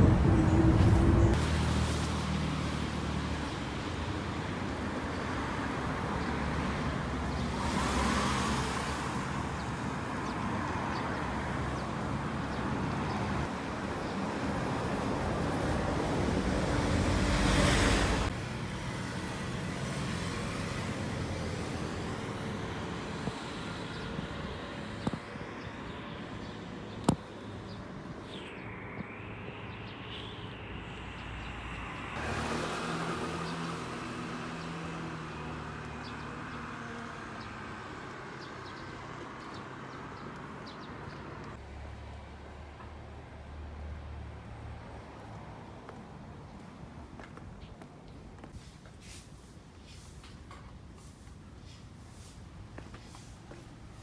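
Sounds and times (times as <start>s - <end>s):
road vehicle rumble: 0.0s - 54.0s.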